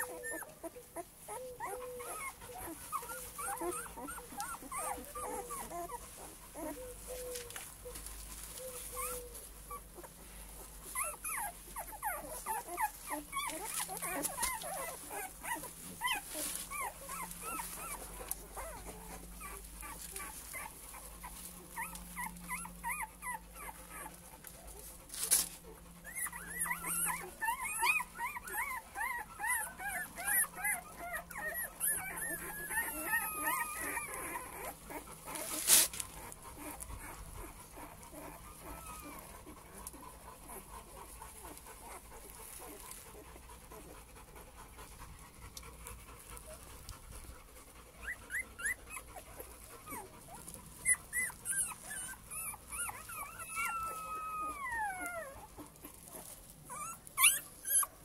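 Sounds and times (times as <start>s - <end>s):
puppies whimpering and squeaking: 0.0s - 44.8s, 45.5s - 58.0s.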